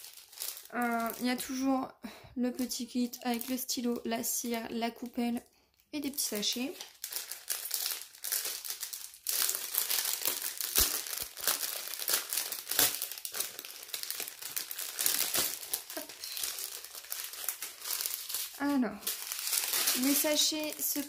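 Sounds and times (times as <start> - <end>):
plastic sachets crinkling: 0.0 - 1.7, 2.4 - 5.2, 6.0 - 21.0.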